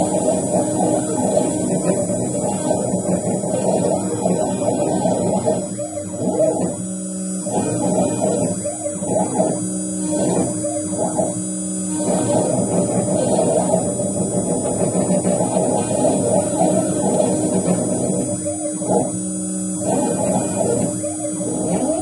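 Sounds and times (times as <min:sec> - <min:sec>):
cnc router cutting wood: 0:00.0 - 0:22.0.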